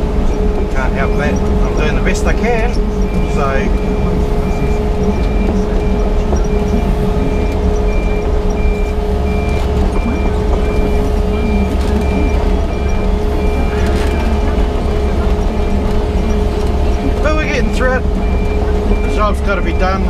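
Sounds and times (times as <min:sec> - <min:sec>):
excavator diesel engine rumbling: 0:00.0 - 0:20.0
high alarm beeping: 0:00.0 - 0:20.0.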